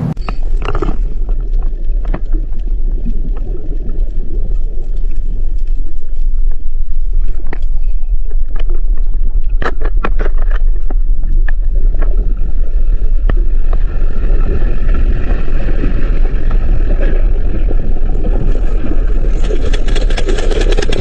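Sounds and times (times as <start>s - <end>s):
deep rumble aboard a boat: 0.0s - 21.0s.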